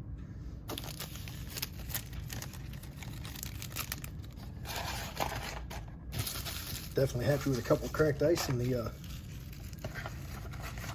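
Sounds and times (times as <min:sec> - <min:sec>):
foil wrappers crinkling: 0:00.7 - 0:10.9.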